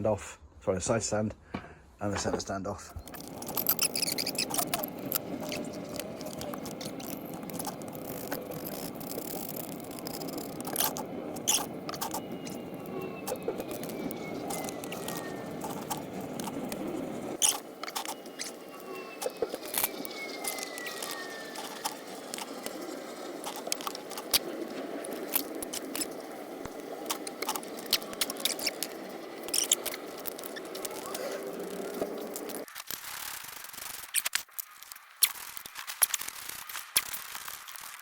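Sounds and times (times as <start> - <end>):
hand tools clicking and tapping metal: 2.1 - 32.6.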